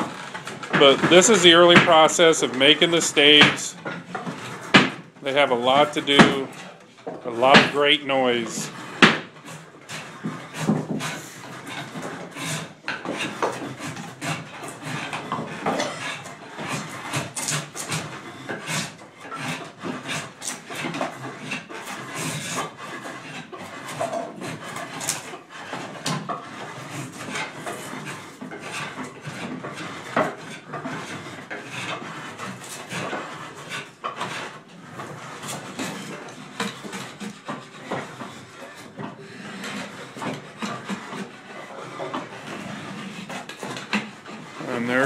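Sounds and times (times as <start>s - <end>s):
draw knife scraping wood: 0.0s - 45.0s
wood knocking and clattering: 0.0s - 45.0s.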